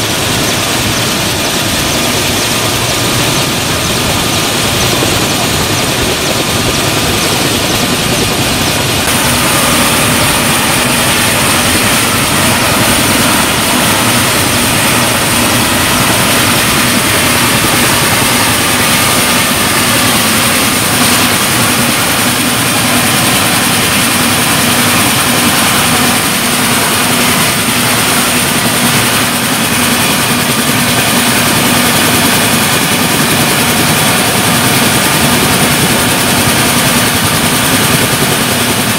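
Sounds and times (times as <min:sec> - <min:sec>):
helicopter turbine engines idling: 0:00.0 - 0:38.9.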